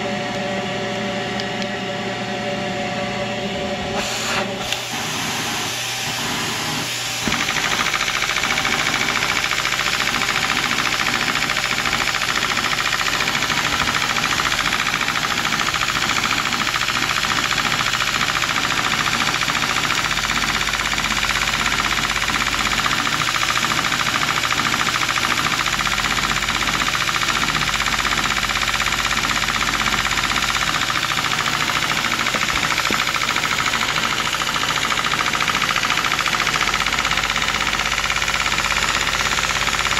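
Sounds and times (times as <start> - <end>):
toy piston engine clattering: 7.3 - 39.9.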